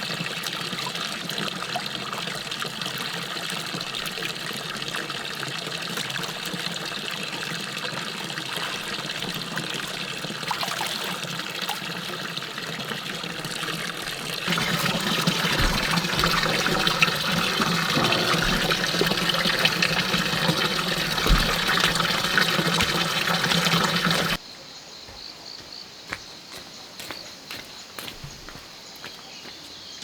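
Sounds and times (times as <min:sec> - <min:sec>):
running splashing water: 0:00.0 - 0:24.4
insects chirping: 0:05.7 - 0:30.0.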